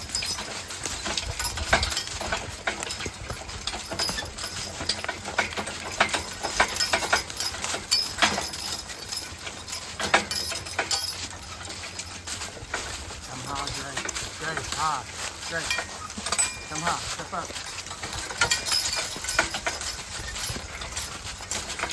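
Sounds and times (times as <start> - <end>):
horse hooves clopping: 0.0 - 21.9.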